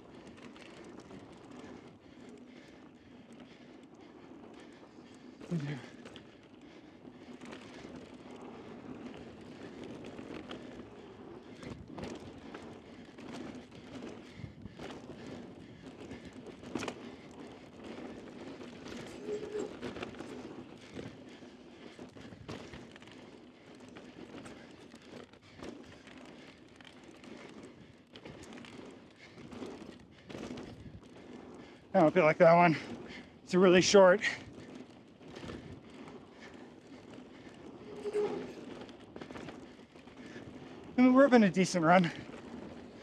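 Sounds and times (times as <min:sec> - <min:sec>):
bike knocking and rattling: 0:00.0 - 0:43.0
tyres rushing on loose dirt: 0:00.0 - 0:43.0.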